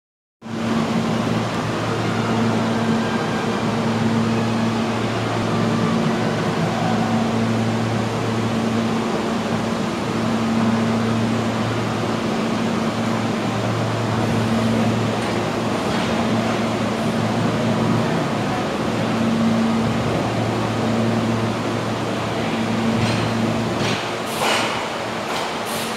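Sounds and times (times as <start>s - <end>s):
subway train idling hum: 0.4s - 25.9s.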